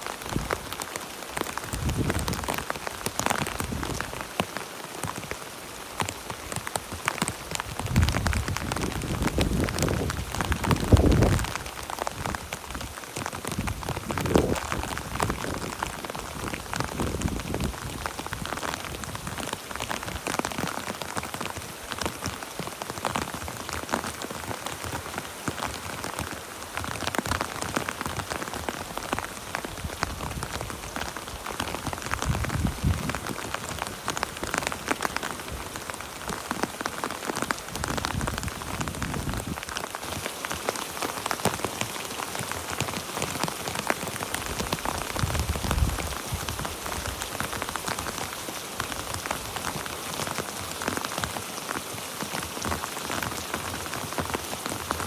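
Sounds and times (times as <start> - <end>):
heavy rain on tent fabric: 0.0 - 55.0.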